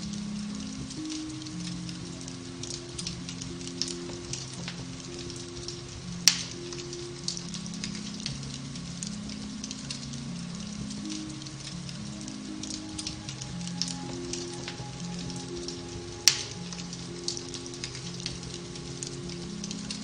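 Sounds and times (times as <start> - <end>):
soft slow piano music: 0.0 - 20.0
wood fire crackling: 0.0 - 20.0.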